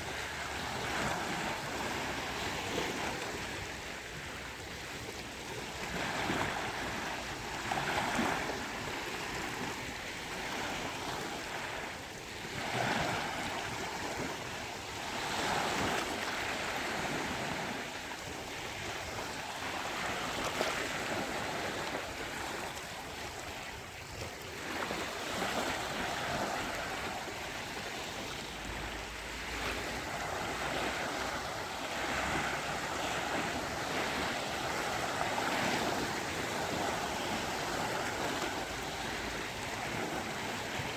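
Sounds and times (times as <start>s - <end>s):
sea waves washing onto beach: 0.0s - 40.9s.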